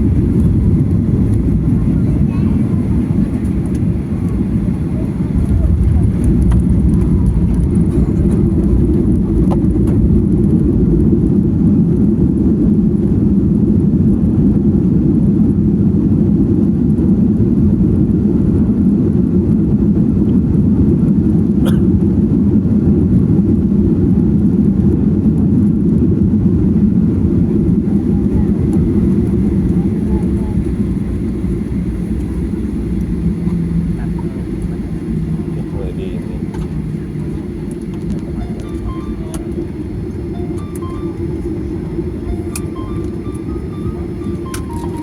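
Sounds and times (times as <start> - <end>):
jet airliner cabin rumble: 0.0 - 45.0.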